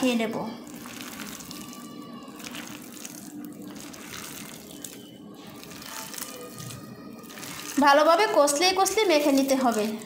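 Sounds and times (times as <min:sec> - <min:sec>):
hand kneading wet mixture: 0:00.0 - 0:10.0.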